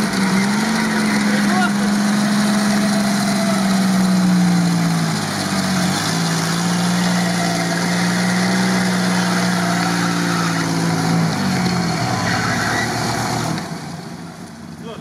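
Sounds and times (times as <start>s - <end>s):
suv engine revving: 0.0s - 14.8s.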